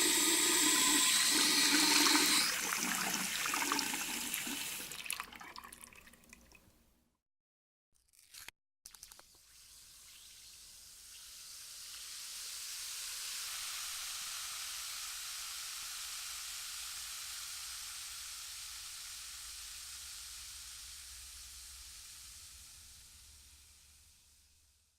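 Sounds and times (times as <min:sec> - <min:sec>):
water hissing in bathroom fixture: 0:00.0 - 0:06.2, 0:09.5 - 0:23.9.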